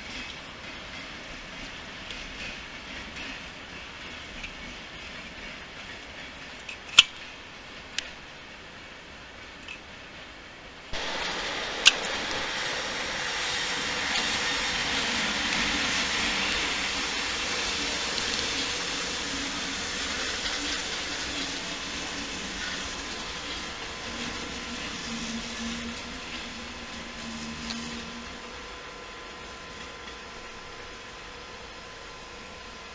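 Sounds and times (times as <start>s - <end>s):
train rushing on rails: 0.0s - 32.9s.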